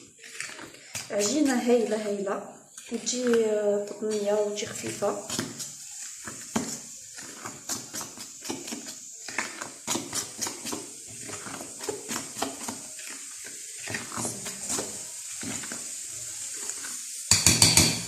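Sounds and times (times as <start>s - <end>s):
fork stirring dough in a bowl: 0.0s - 18.0s.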